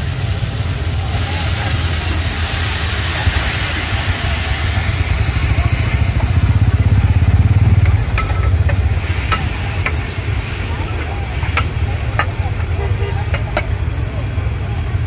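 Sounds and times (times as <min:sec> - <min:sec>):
vegetables sizzling in frying pan: 0:00.0 - 0:14.4
steady low rumble: 0:00.0 - 0:15.0.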